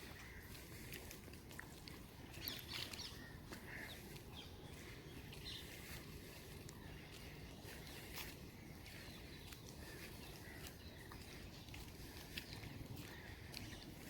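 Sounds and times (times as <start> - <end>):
light rain with drips: 0.0 - 14.0.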